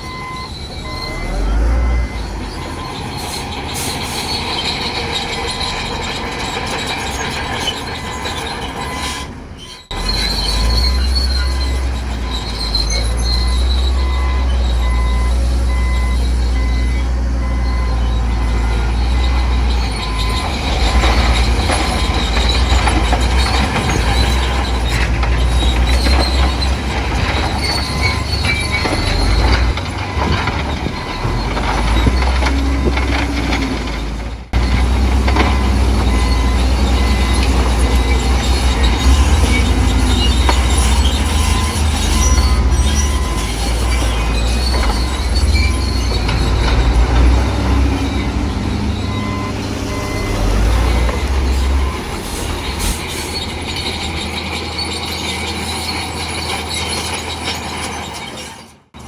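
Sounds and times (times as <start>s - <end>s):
bulldozer diesel engine: 0.0s - 59.0s
steel tracks squealing and clanking: 0.0s - 59.0s.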